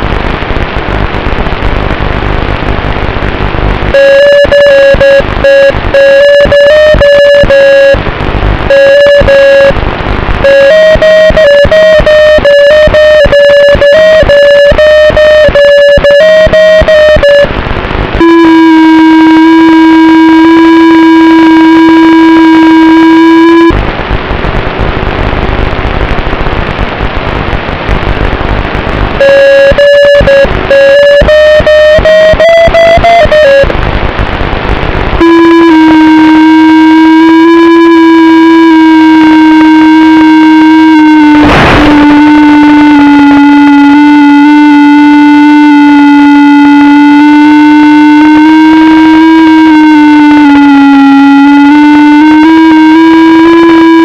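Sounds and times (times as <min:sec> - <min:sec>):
radio static hiss: 0:00.0 - 0:54.0
drone motor whine: 0:03.6 - 0:23.8, 0:29.2 - 0:33.8, 0:35.2 - 0:54.0.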